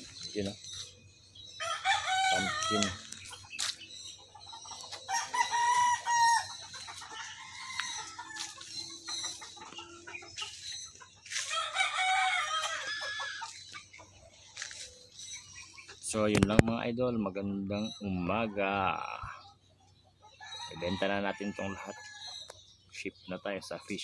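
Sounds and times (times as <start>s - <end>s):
roosters crowing: 0.0s - 15.8s, 18.1s - 22.6s.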